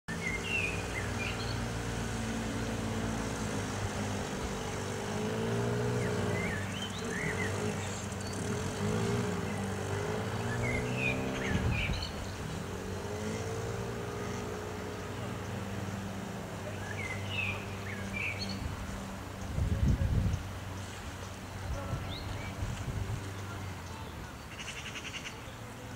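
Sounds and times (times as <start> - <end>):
motor engine humming: 0.1 - 24.6
birds chirping: 0.1 - 25.9.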